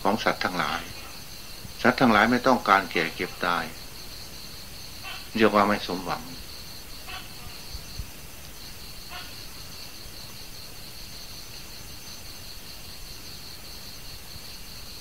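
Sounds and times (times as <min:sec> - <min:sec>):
background hiss: 0:00.0 - 0:15.0
insect chirping trill: 0:00.0 - 0:15.0.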